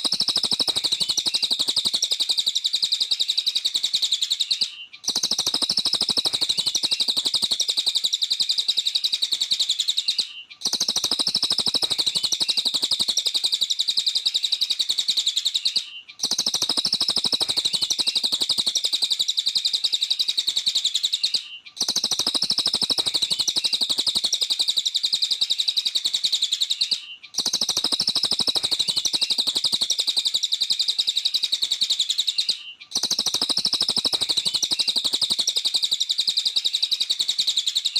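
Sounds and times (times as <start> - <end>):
bird chattering song: 0.0 - 37.9.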